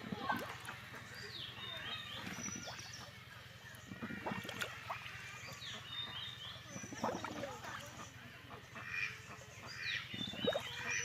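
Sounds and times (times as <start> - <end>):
birds chirping: 0.2 - 11.0.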